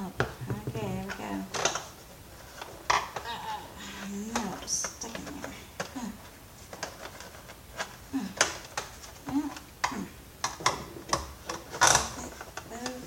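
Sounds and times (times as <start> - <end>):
plastic parts clicking and knocking: 0.1 - 3.3, 4.0 - 13.0.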